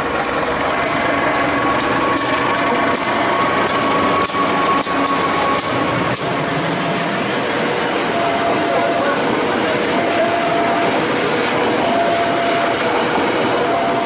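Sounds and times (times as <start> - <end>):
diesel locomotive engine running: 0.0 - 14.0
train wheels rolling on rails: 0.0 - 14.0.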